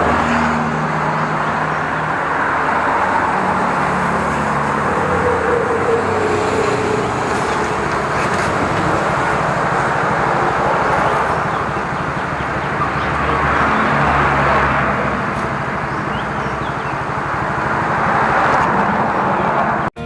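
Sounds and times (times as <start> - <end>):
loud rushing noise: 0.0 - 19.9.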